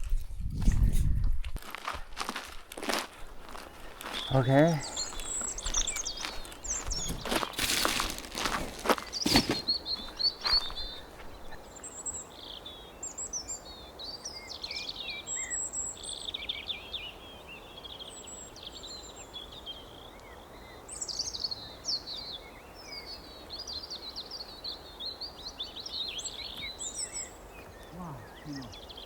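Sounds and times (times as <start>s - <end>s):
small birds chirping: 1.8s - 29.0s.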